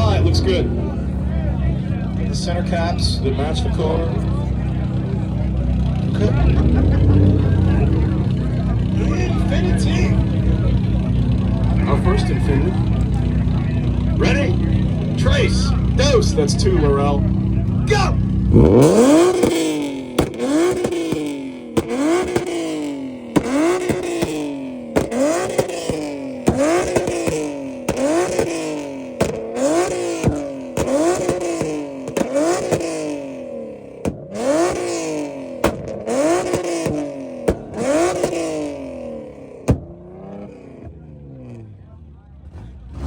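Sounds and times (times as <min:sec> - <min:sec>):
car engine revving: 0:00.0 - 0:43.0
exhaust pops: 0:01.8 - 0:41.6.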